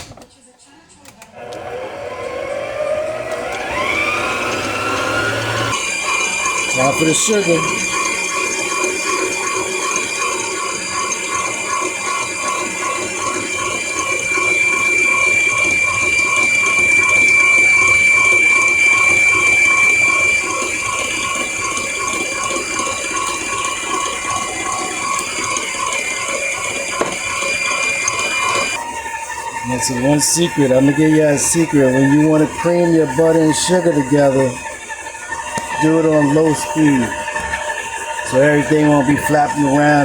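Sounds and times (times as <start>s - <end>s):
electric mixer running: 1.3s - 40.0s.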